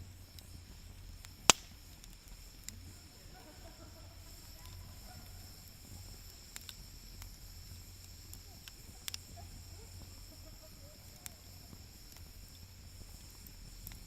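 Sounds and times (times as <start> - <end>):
sharp fire pops: 0.0 - 14.0
steady low hum: 0.0 - 14.0
wood fire crackling: 0.0 - 14.0.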